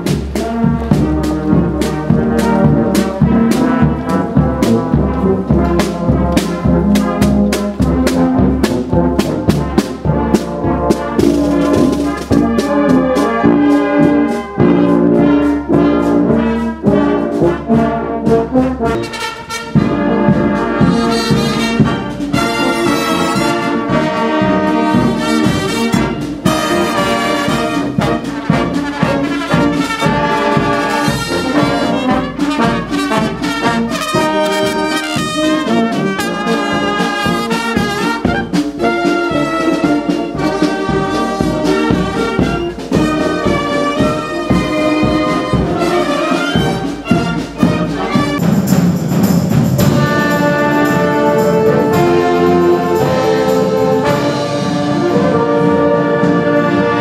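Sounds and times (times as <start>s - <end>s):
marching brass band playing: 0.0s - 57.0s
snare drum march beat: 0.0s - 57.0s.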